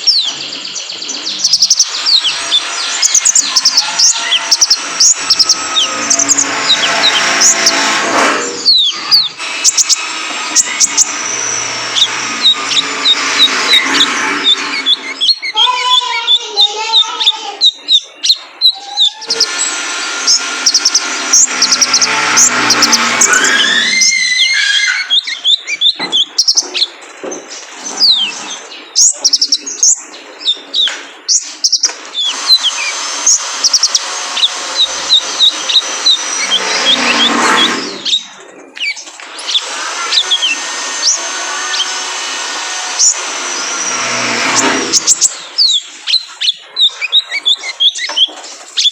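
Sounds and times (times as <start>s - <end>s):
bird singing high chirps: 0.0s - 7.9s, 8.6s - 42.0s, 44.9s - 48.9s.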